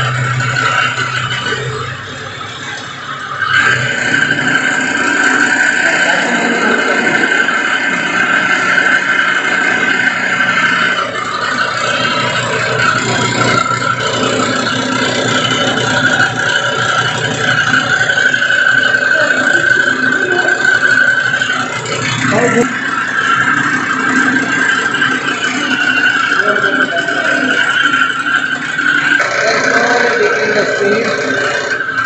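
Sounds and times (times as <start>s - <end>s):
motor and spinning shaft whine: 0.0s - 32.0s.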